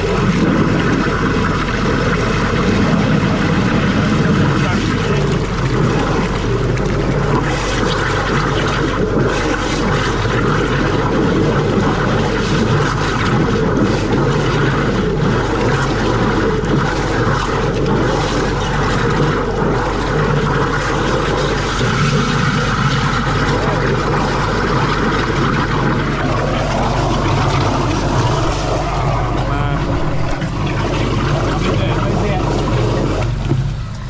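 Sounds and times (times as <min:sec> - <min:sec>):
engine and pump running: 0:00.0 - 0:34.0
water gushing into drain: 0:00.0 - 0:34.0.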